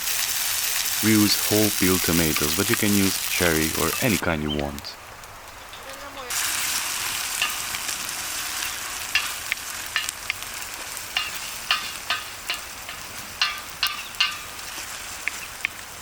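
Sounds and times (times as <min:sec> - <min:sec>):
food sizzling in a cauldron: 0:00.0 - 0:16.0.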